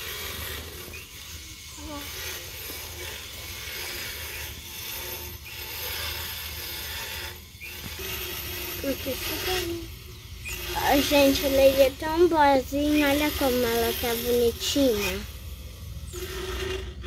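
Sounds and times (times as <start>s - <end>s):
dental float grinding teeth: 0.0s - 17.0s.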